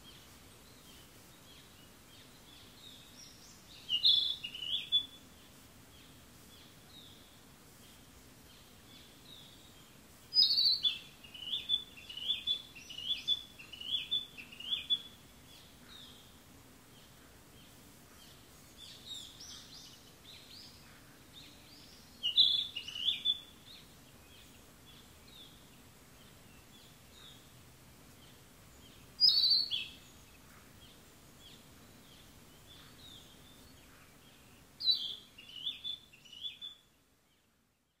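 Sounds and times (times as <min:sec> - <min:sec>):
faint steady background noise: 0:00.0 - 0:38.0
small birds singing and chirping: 0:00.0 - 0:38.0.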